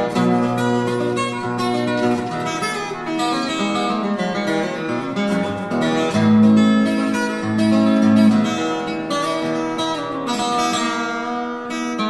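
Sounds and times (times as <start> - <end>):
acoustic guitar instrumental: 0.0 - 12.0.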